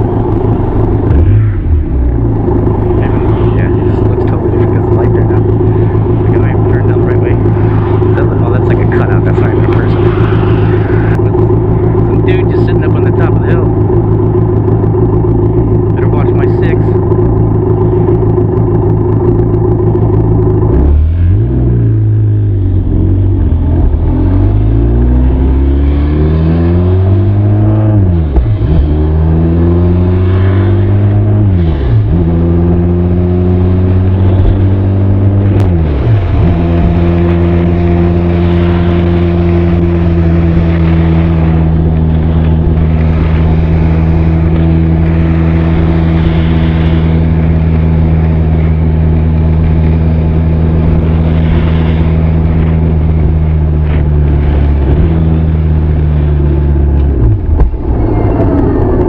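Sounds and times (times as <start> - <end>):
motorcycle accelerating through gears: 0.0 - 59.0.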